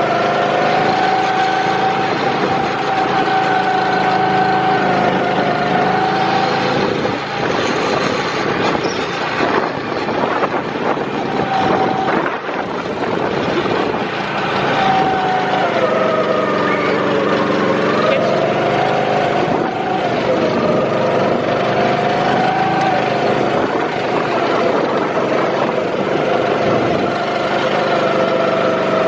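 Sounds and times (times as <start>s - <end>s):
small engine whining: 0.0s - 29.0s.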